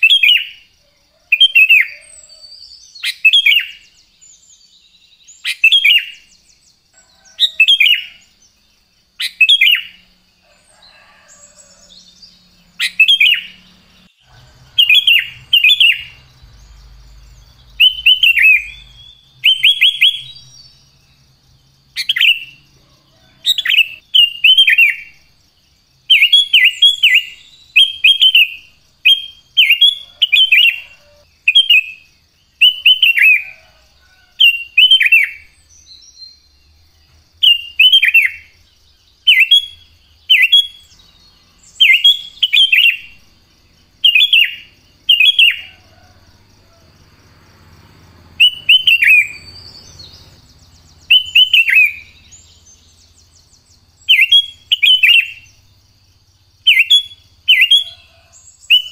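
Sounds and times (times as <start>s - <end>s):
bulbul singing whistled phrases: 0.0s - 0.7s, 1.3s - 10.2s, 11.0s - 21.2s, 22.0s - 22.6s, 23.5s - 25.3s, 26.0s - 33.8s, 34.4s - 36.6s, 37.3s - 46.1s, 48.4s - 55.7s, 56.6s - 58.9s.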